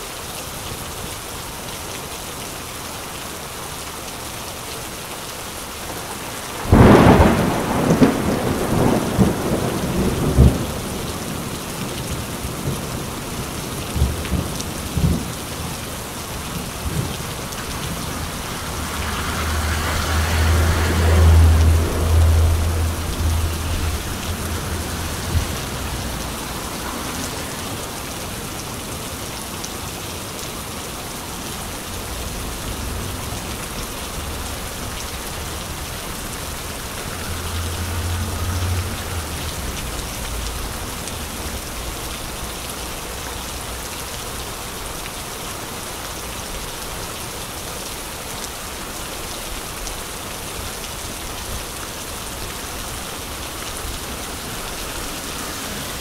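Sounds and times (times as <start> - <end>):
rain on wet pavement: 0.0 - 56.0.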